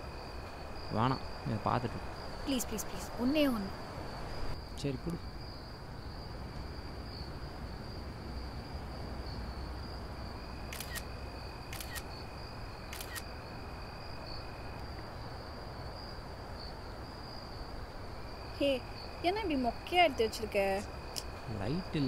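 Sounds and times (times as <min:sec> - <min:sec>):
high-pitched insect trill: 0:00.0 - 0:22.0.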